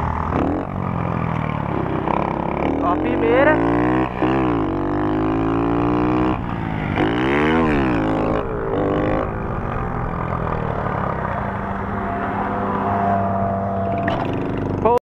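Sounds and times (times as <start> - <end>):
moped engine revving hard: 0.0 - 15.0.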